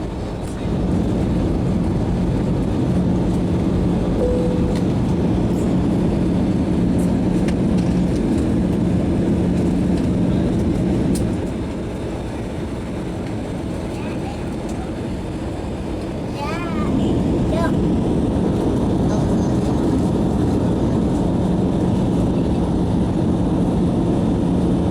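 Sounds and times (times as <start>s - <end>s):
aircraft cabin engine rumble: 0.0s - 24.9s.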